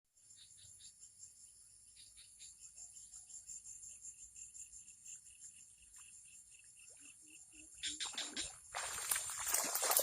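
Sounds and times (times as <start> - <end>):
cricket-like insect trill: 0.2 - 10.0.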